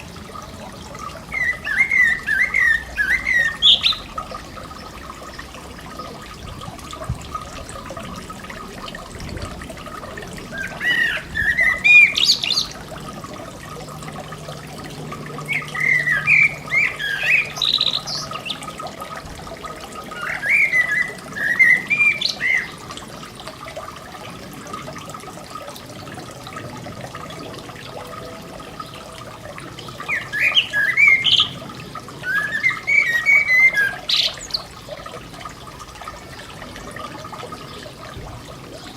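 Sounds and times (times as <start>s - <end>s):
songbird warbling: 0.0s - 23.0s, 28.1s - 38.9s
fountain splashing: 0.0s - 38.9s.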